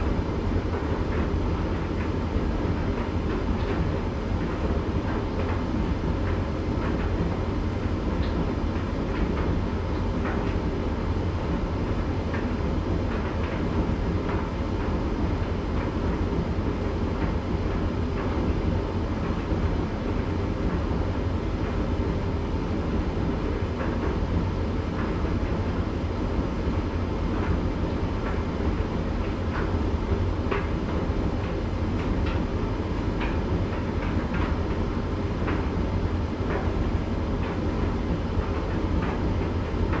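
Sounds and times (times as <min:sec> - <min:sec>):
tumble dryer drum humming: 0:00.0 - 0:40.0.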